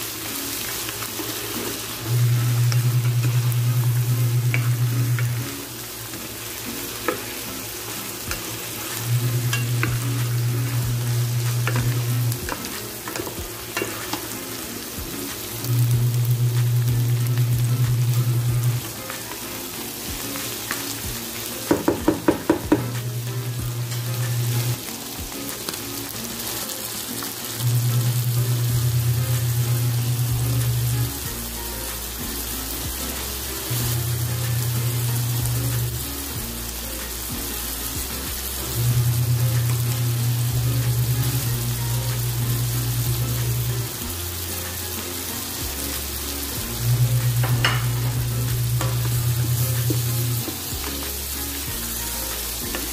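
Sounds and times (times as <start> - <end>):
food sizzling in a pan: 0.0 - 52.9
background music with bass: 0.6 - 26.4, 27.6 - 52.9.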